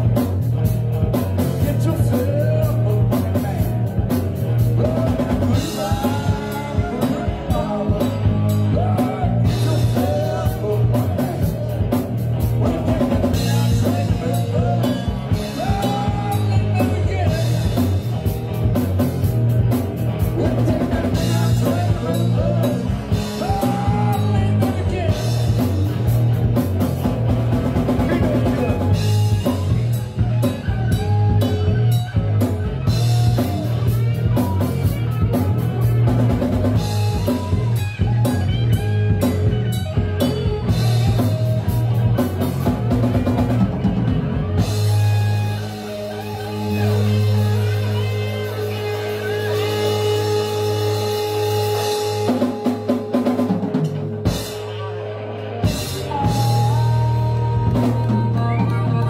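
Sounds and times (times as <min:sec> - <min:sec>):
drum kit beat: 0:00.0 - 0:59.0
lead guitar melody bending: 0:00.0 - 0:59.0
rock band playing: 0:00.0 - 0:59.0.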